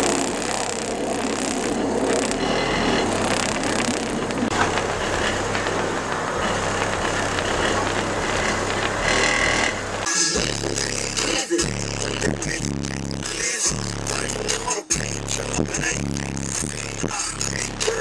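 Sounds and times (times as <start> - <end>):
subwoofers playing deep bass: 0.0 - 18.0.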